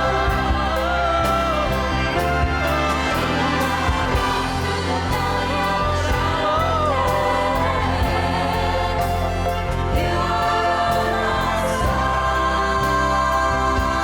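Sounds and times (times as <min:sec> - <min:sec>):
choir singing with orchestra: 0:00.0 - 0:14.0.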